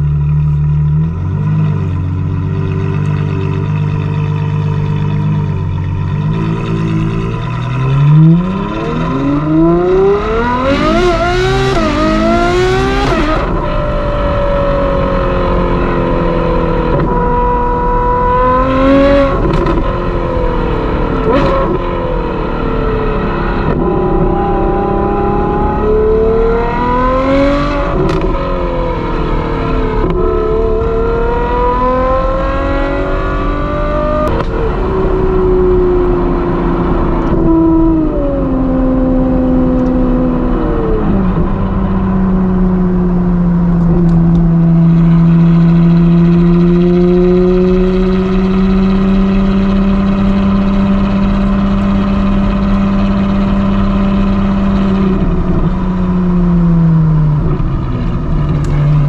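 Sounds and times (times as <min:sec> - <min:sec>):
sports car engine revving: 0:00.0 - 0:59.0.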